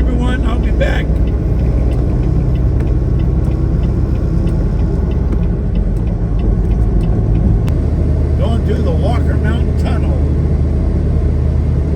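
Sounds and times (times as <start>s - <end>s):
truck engine and road noise rumble: 0.0s - 11.9s.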